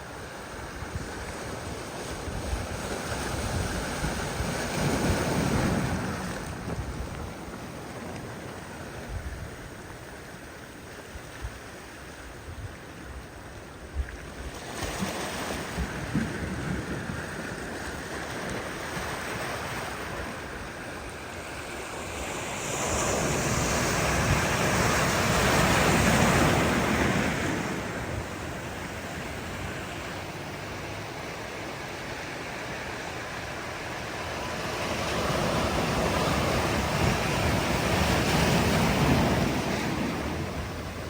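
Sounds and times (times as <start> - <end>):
ocean surf washing ashore: 0.0 - 41.0.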